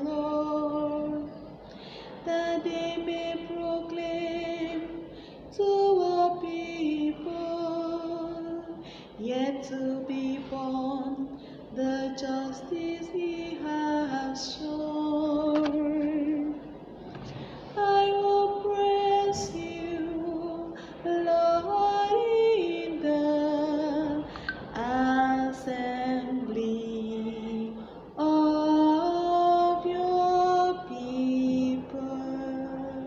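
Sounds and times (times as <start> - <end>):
woman singing slow melody: 0.0 - 16.7, 17.8 - 33.0.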